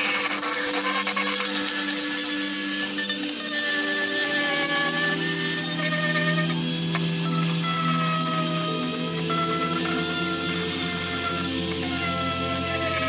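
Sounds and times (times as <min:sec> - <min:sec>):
rotary tool grinding metal: 0:00.0 - 0:13.0.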